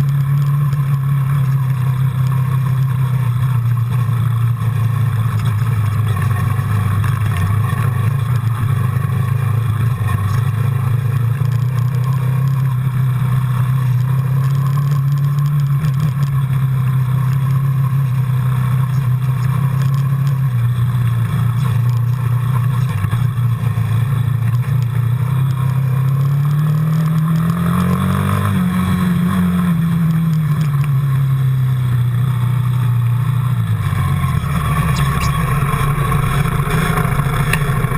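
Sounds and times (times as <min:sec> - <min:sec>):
quad bike engine running: 0:00.0 - 0:37.9.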